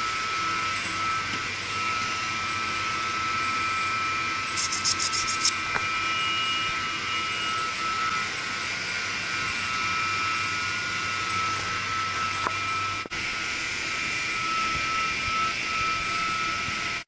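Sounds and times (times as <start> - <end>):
electric motors humming: 0.0 - 17.0.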